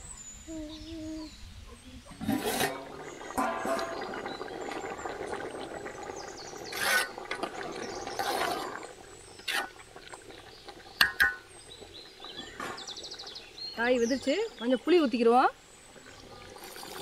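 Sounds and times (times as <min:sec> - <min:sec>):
pot boiling and bubbling: 0:02.1 - 0:17.0.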